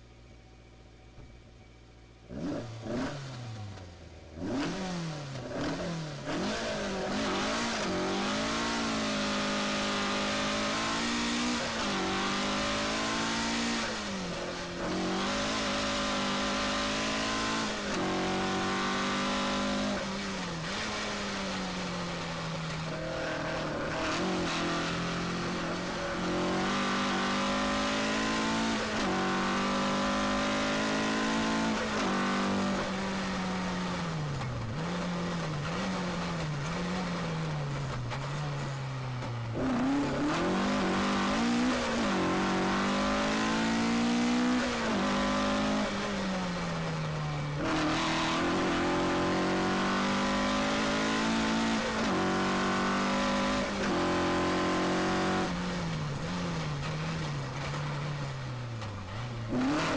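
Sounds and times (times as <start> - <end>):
car engine accelerating: 1.1 - 59.9.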